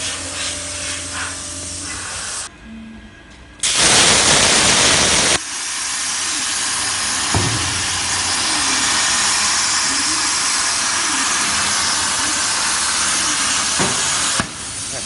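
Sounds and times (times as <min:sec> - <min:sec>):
pressurized gas hissing: 0:00.0 - 0:02.5, 0:03.6 - 0:15.0.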